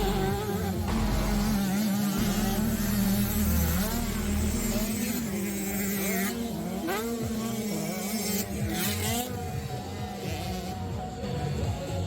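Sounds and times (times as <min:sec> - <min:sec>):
motocross bike engines buzzing: 0:00.0 - 0:12.0.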